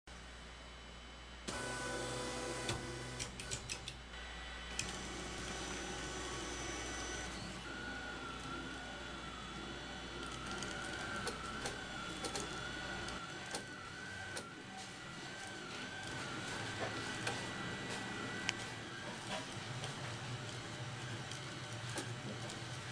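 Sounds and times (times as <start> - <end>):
stepper motors whining: 1.5 - 22.9.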